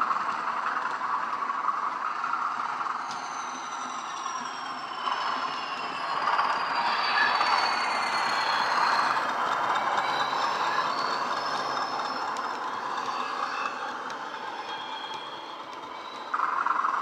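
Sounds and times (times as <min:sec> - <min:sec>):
model locomotive engine sound: 0:00.0 - 0:17.0
model wagons running on track: 0:00.0 - 0:17.0.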